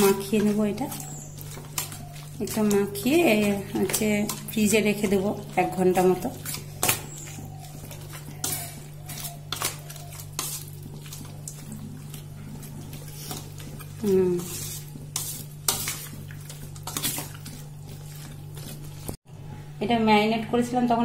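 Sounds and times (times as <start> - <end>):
metal spoon scraping bowl: 0.0 - 19.2.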